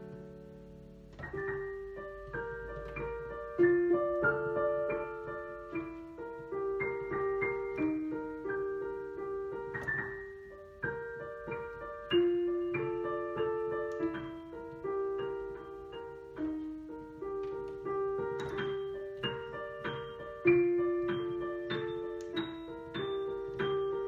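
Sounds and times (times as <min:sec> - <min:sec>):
solo piano: 0:00.0 - 0:24.0.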